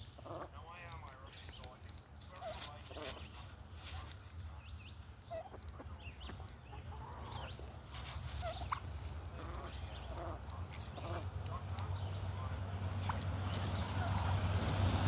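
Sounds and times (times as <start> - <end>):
birds chirping and clucking: 0.0 - 15.0
steady low rumble: 0.0 - 15.0.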